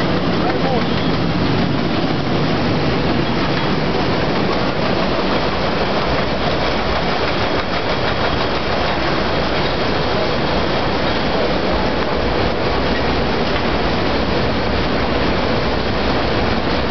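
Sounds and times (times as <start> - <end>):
industrial furnace mechanical din: 0.0 - 16.9.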